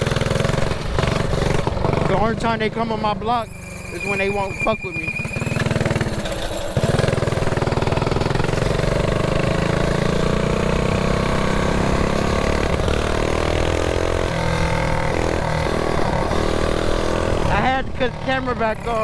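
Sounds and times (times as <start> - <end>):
mini bike engine running: 0.0 - 3.1, 5.1 - 19.0.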